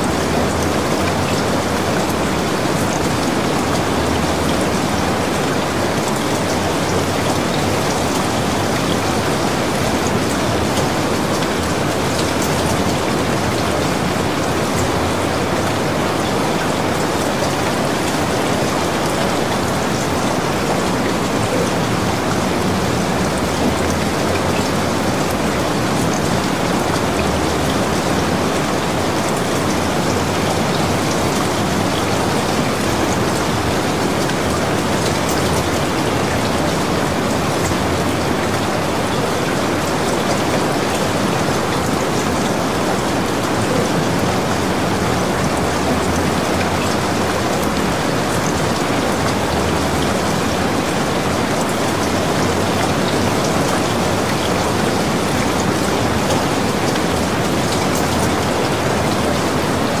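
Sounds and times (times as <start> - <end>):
steady rain splashing: 0.0 - 60.0.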